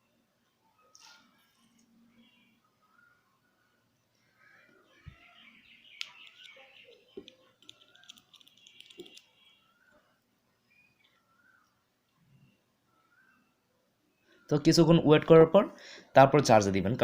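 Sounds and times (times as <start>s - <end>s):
faint bird chirping: 0.0s - 15.4s.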